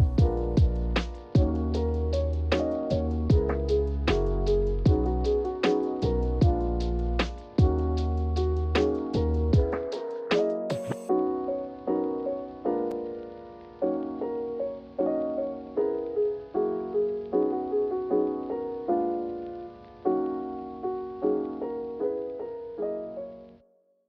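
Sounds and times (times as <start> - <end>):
soft piano chords: 0.0 - 23.7.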